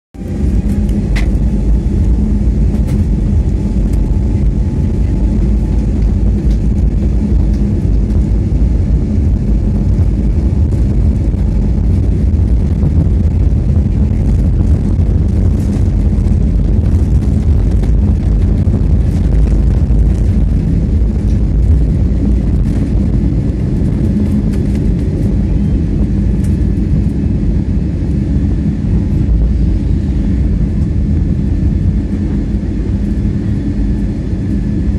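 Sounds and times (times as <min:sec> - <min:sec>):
jet engines rumbling: 0:00.2 - 0:34.9
steady cabin hum: 0:00.2 - 0:34.9.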